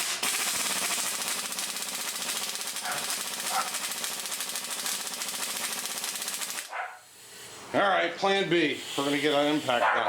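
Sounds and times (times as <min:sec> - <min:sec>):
pneumatic air ratchet rattling: 0:00.0 - 0:07.6, 0:08.6 - 0:09.9.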